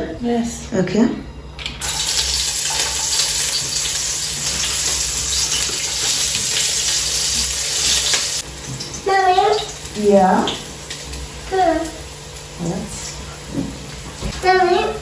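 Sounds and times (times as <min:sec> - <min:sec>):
food sizzling in a pot: 0:01.8 - 0:15.0.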